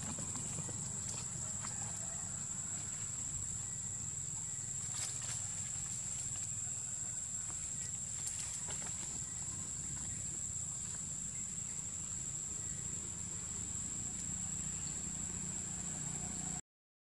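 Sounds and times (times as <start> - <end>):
insects droning: 0.0 - 16.6.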